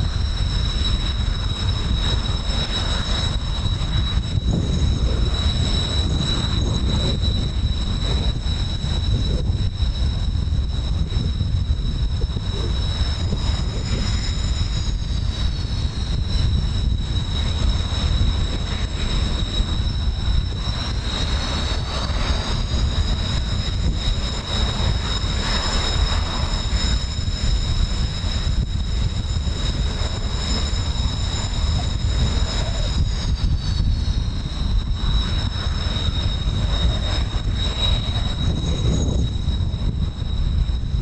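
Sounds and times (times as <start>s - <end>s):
jet engines whining overhead: 0.0s - 41.0s
wind on microphone: 0.0s - 41.0s.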